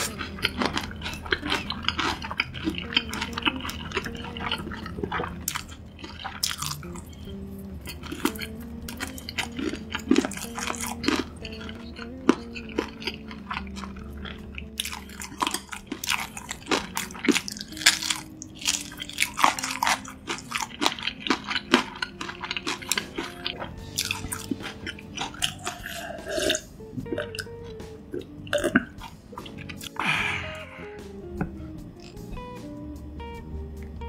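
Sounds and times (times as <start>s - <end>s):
chewing crisp food: 0.0s - 30.0s
soft background music: 0.0s - 34.0s.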